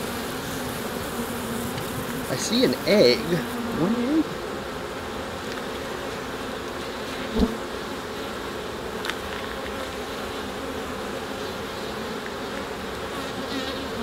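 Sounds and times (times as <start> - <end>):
bees humming: 0.0 - 14.0.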